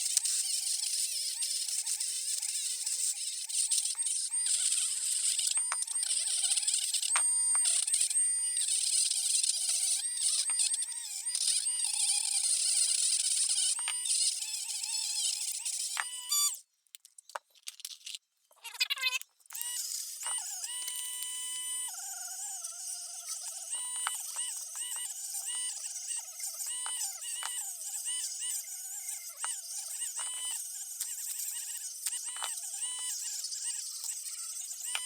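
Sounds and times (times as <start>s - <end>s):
rotary tool grinding metal: 0.0s - 16.6s, 19.5s - 35.0s.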